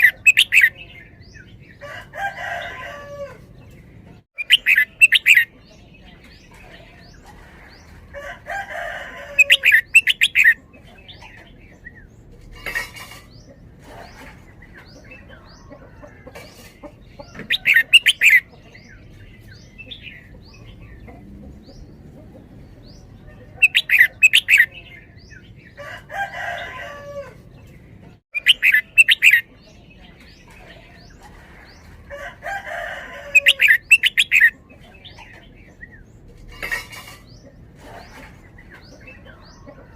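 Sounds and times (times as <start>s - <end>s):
bird singing fluty song: 0.0s - 1.8s, 2.5s - 8.0s, 9.4s - 25.8s, 27.6s - 32.0s, 33.3s - 39.9s.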